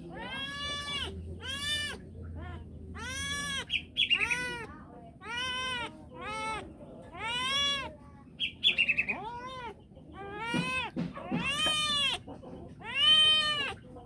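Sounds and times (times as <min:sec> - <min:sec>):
cat meowing: 0:00.0 - 0:08.0, 0:08.7 - 0:13.8
cat chirps: 0:00.1 - 0:13.8.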